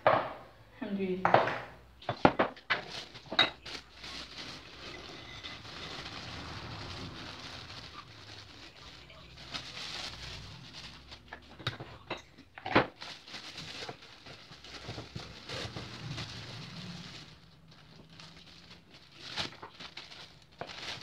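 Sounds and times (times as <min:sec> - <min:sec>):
plastic bag rustling: 0:02.0 - 0:21.0
plastic bag crinkling: 0:02.2 - 0:21.0.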